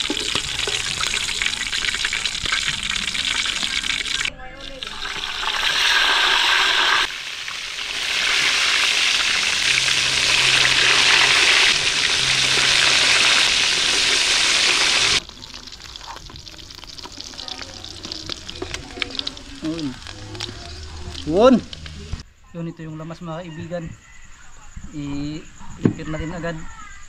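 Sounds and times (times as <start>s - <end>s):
fish frying in hot oil: 0.0s - 22.2s.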